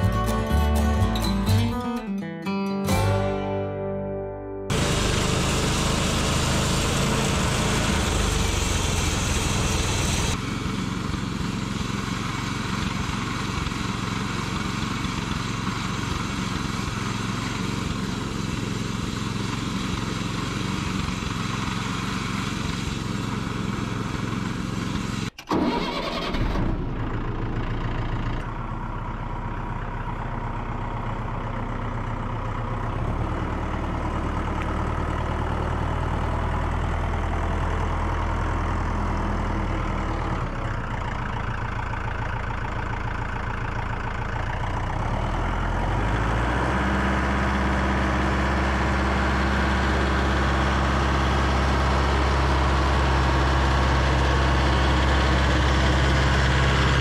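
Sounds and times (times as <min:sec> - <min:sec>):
tractor engine running: 0:00.0 - 0:02.1, 0:02.9 - 0:57.0
bandsaw mill engine running: 0:04.7 - 0:57.0.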